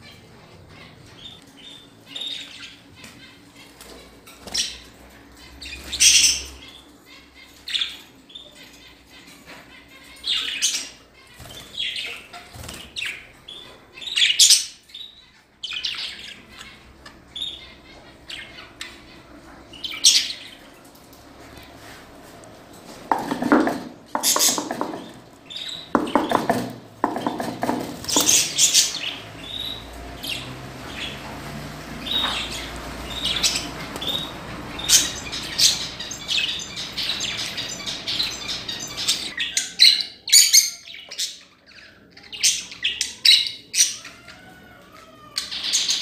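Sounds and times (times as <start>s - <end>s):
budgerigars chirping and squawking: 0.0s - 46.0s.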